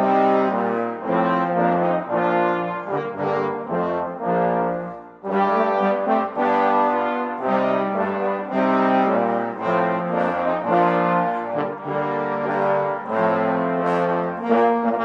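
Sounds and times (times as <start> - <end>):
brass ensemble playing chords: 0.0 - 15.0.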